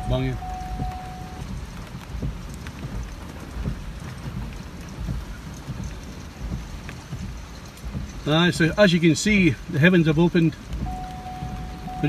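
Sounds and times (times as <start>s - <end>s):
heavy rain on vehicle cab: 0.0s - 12.0s
vehicle engine rumble: 0.0s - 12.0s.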